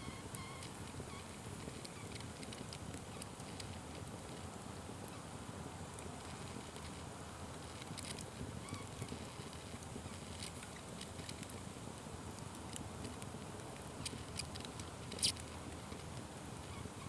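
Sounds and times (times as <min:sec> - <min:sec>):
open fire crackling: 0:00.1 - 0:16.7.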